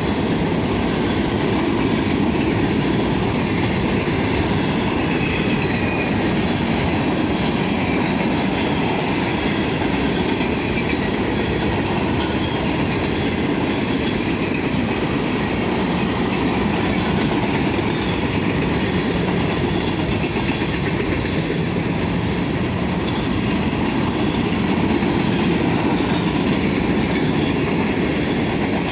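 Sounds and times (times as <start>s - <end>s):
freight train passing: 0.0s - 28.9s
steel wheels on rail: 0.0s - 28.9s.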